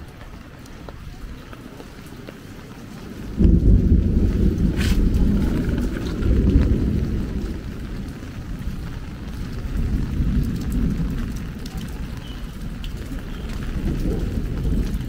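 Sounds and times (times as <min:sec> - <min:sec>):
faint taps of raindrops: 0:00.0 - 0:15.0
heavy rain pouring: 0:00.0 - 0:15.0.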